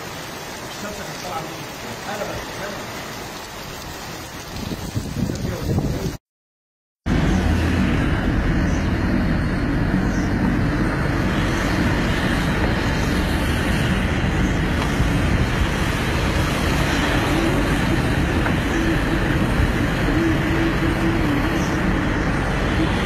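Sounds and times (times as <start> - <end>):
car road and wind noise: 2.6 - 6.2, 7.1 - 23.0.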